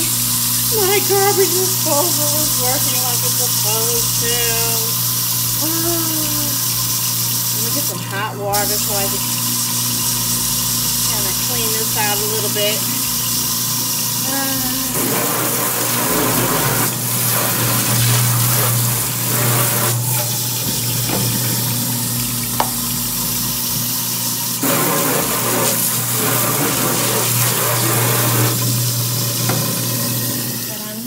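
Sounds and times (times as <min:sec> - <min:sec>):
garbage disposal motor hum: 0:00.0 - 0:31.0
water running into sink: 0:00.0 - 0:31.0.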